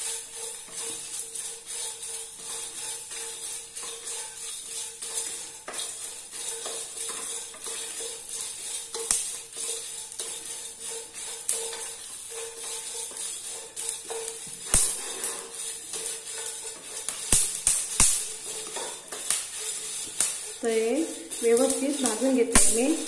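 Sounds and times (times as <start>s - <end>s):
spatula scraping spices in pot: 0.0s - 23.0s.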